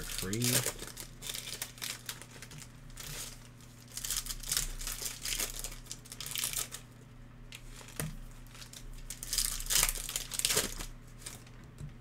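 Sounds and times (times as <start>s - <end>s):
foil wrapper tearing and crinkling: 0.0s - 6.9s, 7.5s - 11.6s.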